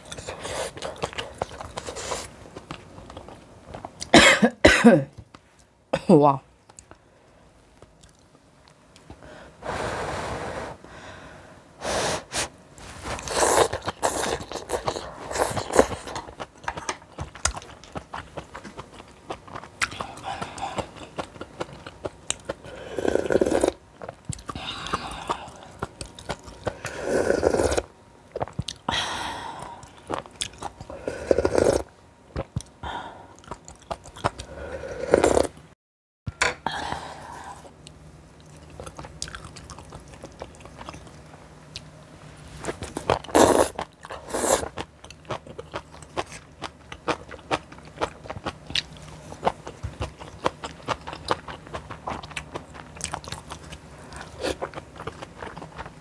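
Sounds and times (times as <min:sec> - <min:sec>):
person chewing crunchy food: 0:00.0 - 0:04.1, 0:12.8 - 0:35.6, 0:36.4 - 0:41.9, 0:42.5 - 0:56.0.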